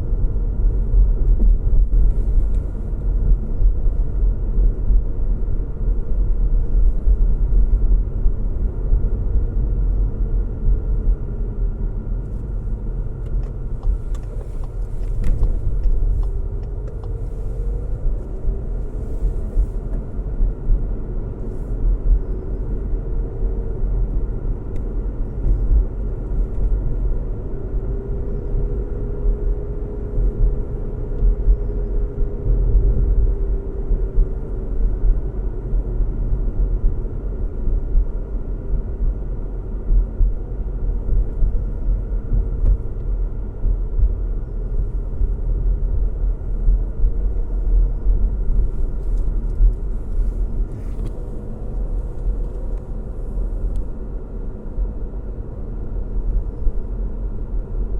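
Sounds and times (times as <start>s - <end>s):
car road rumble: 0.0s - 57.9s
faint hum rising and falling: 0.0s - 57.9s.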